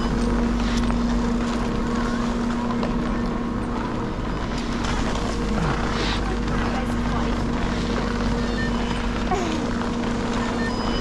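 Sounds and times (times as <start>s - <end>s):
chairlift machinery humming: 0.0s - 11.0s.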